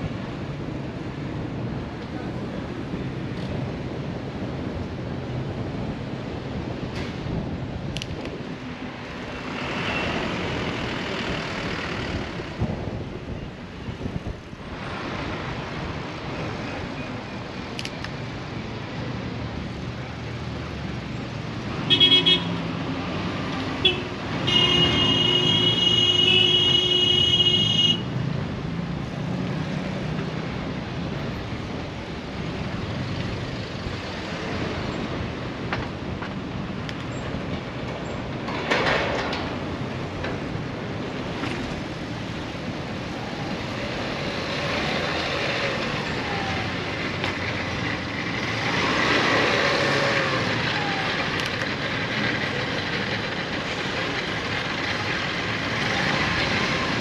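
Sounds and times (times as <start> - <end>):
city traffic engines and tyres: 0.0 - 57.0.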